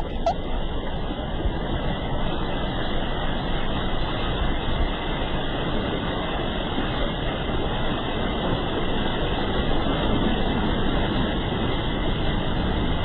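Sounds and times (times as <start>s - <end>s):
vehicle rumbling through flood water: 0.0s - 13.0s.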